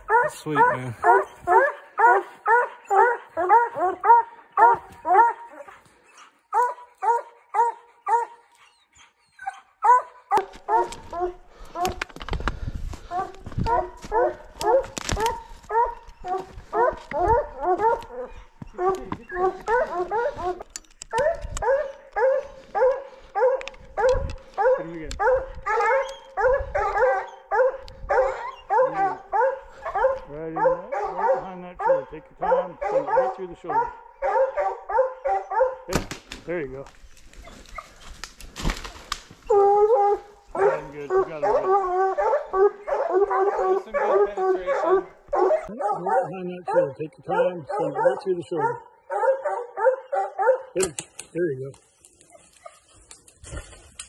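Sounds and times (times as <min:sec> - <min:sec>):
hounds barking: 0:00.0 - 0:12.0, 0:13.0 - 0:36.0, 0:39.4 - 0:51.0.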